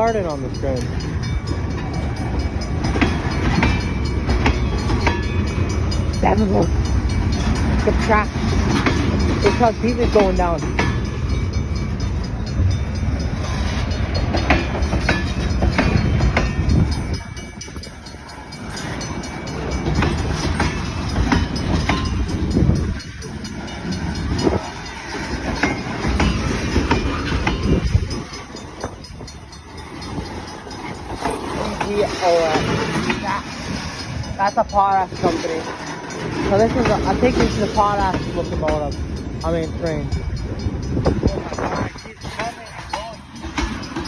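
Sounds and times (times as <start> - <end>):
freight train rumble: 0.0 - 44.0
wheels clacking over rail joints: 0.0 - 44.0.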